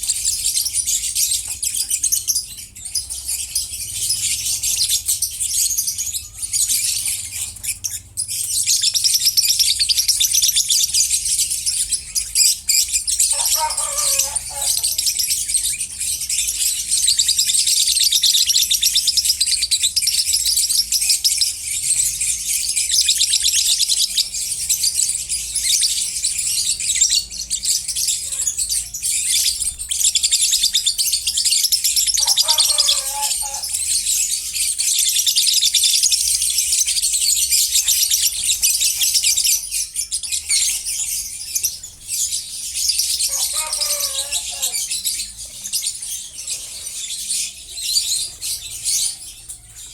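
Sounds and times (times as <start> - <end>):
lovebirds chattering and chirping: 0.0 - 49.9.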